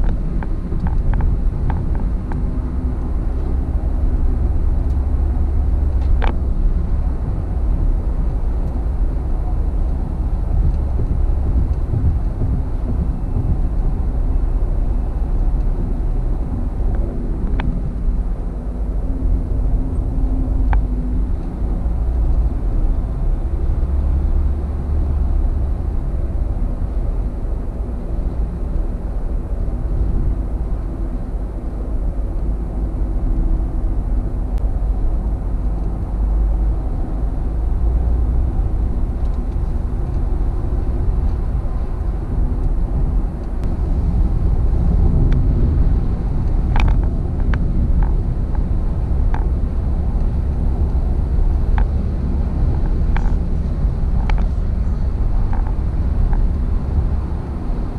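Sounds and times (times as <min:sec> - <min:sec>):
road and engine rumble: 0:00.0 - 0:57.9.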